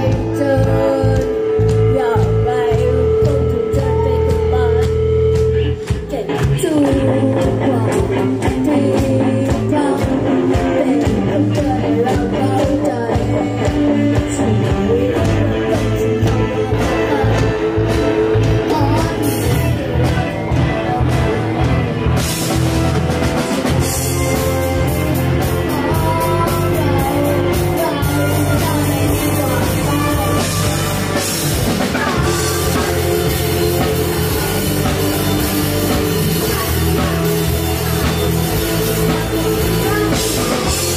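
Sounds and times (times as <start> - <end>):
boy singing: 0.0 - 20.4, 24.0 - 40.9
drum kit beats: 0.0 - 40.9
electric guitars: 0.0 - 40.9.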